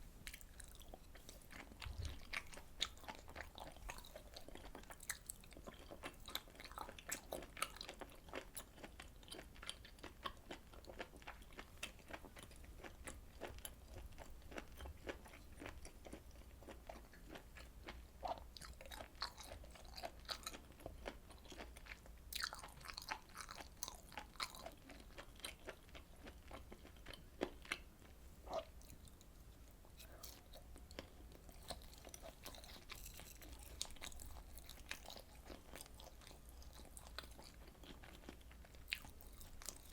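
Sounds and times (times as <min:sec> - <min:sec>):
chewing clicks and smacks: 0:00.3 - 0:27.9, 0:30.0 - 0:39.9.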